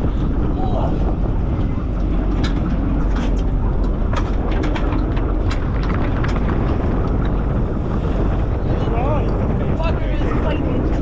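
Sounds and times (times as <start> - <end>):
boat engine rumble: 0.0 - 11.0
wind on microphone: 0.0 - 11.0.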